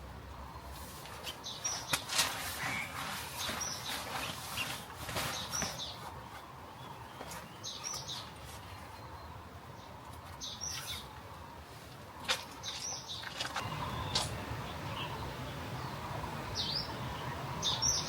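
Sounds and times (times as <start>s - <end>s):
birds chirping: 0.4s - 11.6s, 12.2s - 18.0s.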